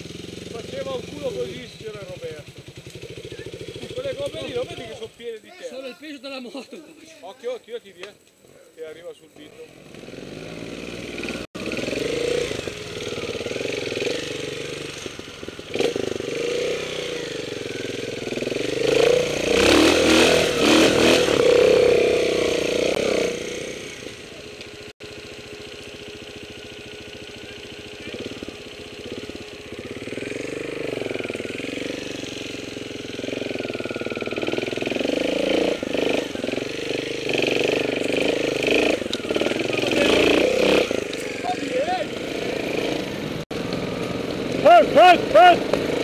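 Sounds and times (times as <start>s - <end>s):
motorcycle engine revving: 0.0s - 5.8s, 8.7s - 46.0s.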